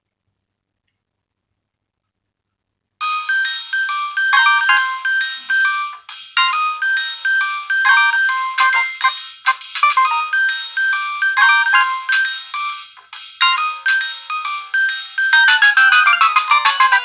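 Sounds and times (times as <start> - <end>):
electronic ringtone melody: 3.0 - 17.0.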